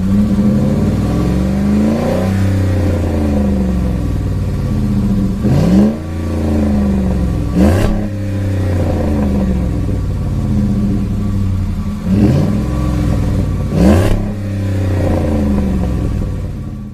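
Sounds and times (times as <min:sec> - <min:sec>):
truck engine idling and revving: 0:00.0 - 0:16.9.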